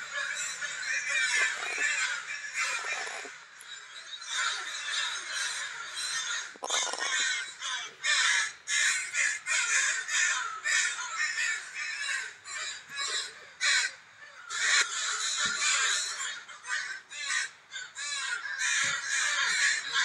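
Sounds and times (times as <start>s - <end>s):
crows cawing: 0.0s - 20.0s.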